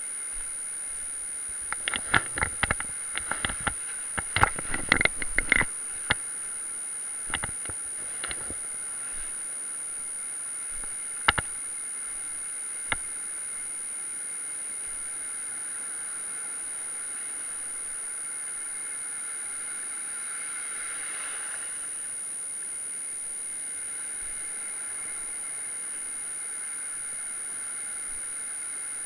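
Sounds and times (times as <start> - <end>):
thin high whine: 0.0 - 29.0.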